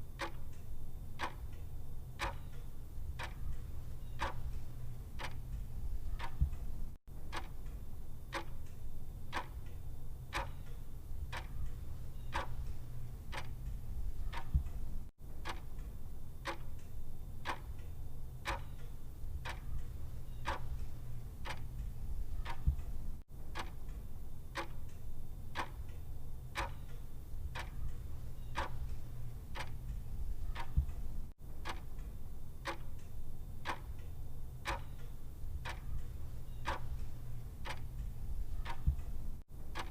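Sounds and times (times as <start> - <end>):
clock ticking: 0.2 - 1.6, 2.2 - 24.0, 24.6 - 25.0, 25.6 - 26.0, 26.6 - 39.9.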